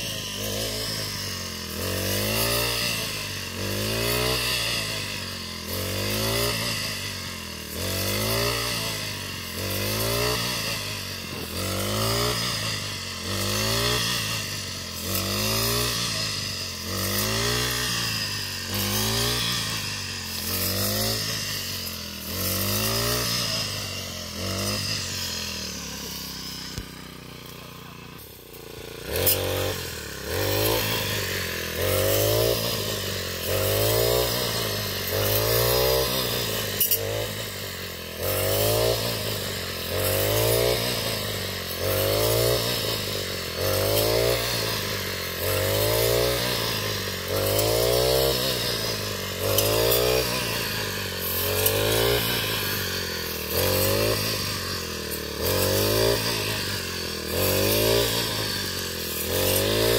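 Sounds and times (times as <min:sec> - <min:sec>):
brush cutter engine revving: 0:00.0 - 0:59.9.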